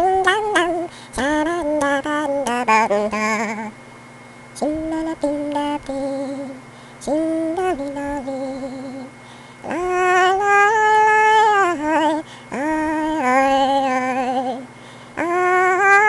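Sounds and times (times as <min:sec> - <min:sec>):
person singing with vibrato: 0:00.0 - 0:03.8, 0:04.5 - 0:16.0.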